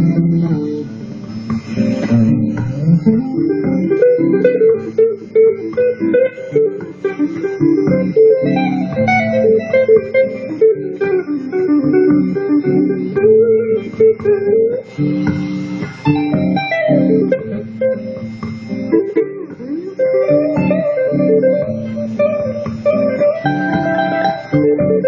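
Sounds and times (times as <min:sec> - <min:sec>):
electric guitar rapid single notes: 0:00.0 - 0:25.0.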